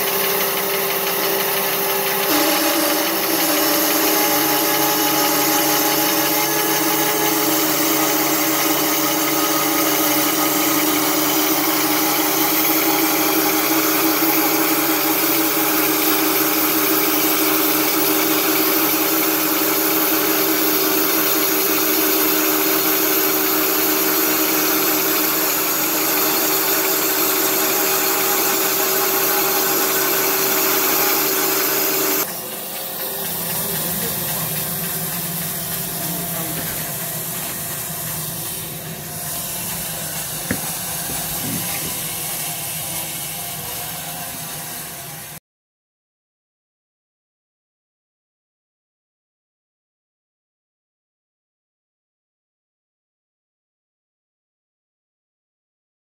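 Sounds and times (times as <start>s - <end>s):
band saw cutting through log: 0.0s - 45.4s
sawmill hum: 0.0s - 45.4s.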